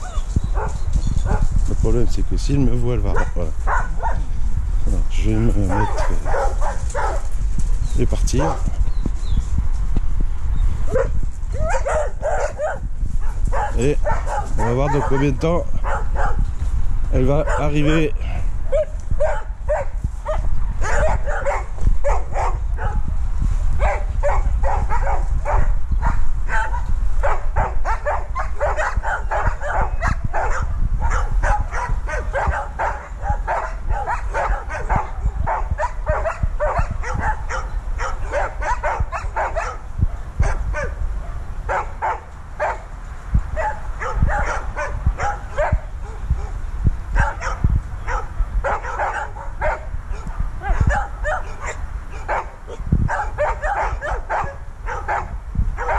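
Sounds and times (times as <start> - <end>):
dog barking rapidly: 0.0 - 1.5, 3.1 - 4.3, 5.7 - 7.4, 8.3 - 8.8, 10.9 - 16.4, 17.3 - 23.1, 23.8 - 42.9, 43.6 - 55.9.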